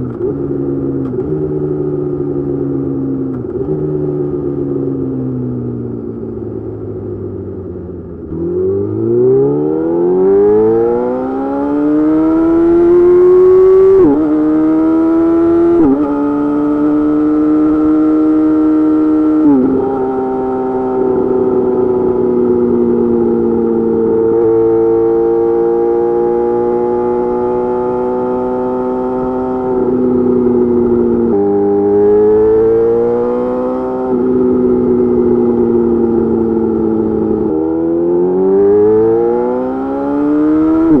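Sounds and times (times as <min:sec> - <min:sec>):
motorcycle engine revving: 0:06.6 - 0:41.0.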